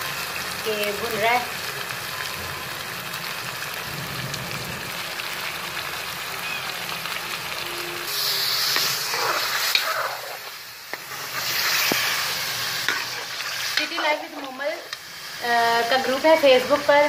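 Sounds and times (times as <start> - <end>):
chicken sizzling in a pot: 0.0 - 17.0.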